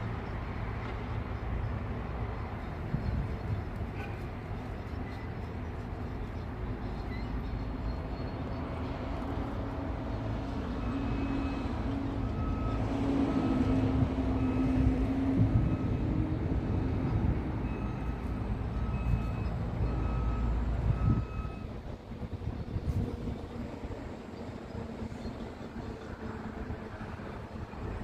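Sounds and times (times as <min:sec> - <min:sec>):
heavy vehicle engine rumble: 0:00.0 - 0:28.0.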